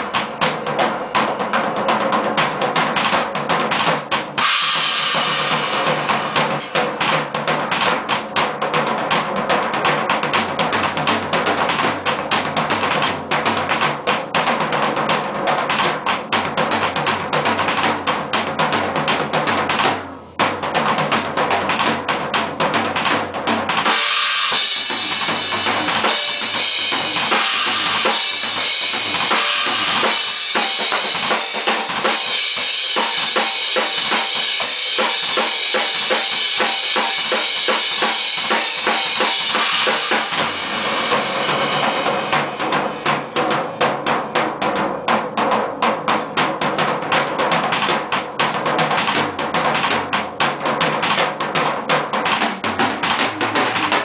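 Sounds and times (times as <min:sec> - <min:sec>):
drum kit solo: 0:00.0 - 0:54.0.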